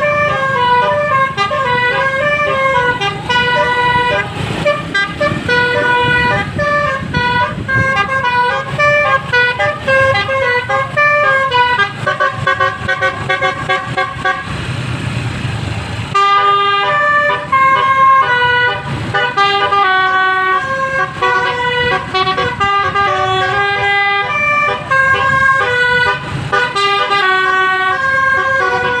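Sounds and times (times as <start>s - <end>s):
musical bus horn tune: 0.0s - 14.6s, 16.1s - 29.0s.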